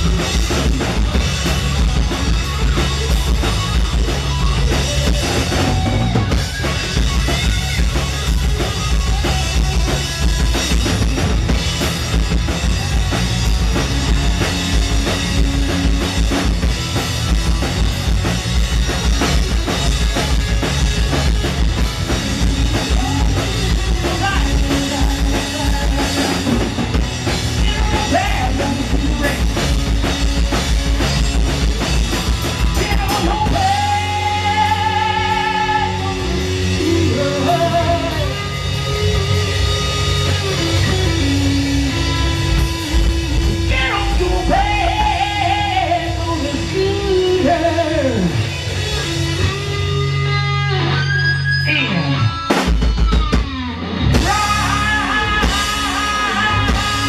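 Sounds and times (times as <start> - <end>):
electric guitar sliding notes: 0.0 - 57.0
live rock band playing: 0.0 - 57.0.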